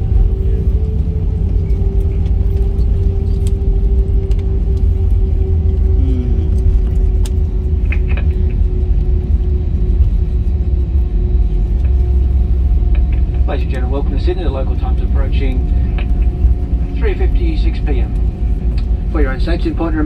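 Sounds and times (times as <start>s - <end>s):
airplane cabin rumble and hum: 0.0s - 20.0s.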